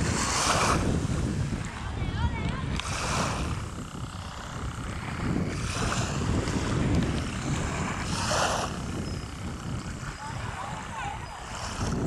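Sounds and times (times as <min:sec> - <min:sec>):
waves washing on sandy shore: 0:00.0 - 0:12.0
wind buffeting microphone: 0:00.0 - 0:12.0.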